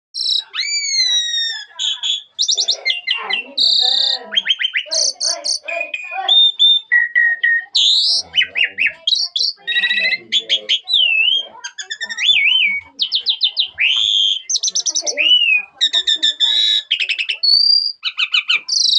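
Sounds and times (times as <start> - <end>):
starling singing: 0.2 - 18.9.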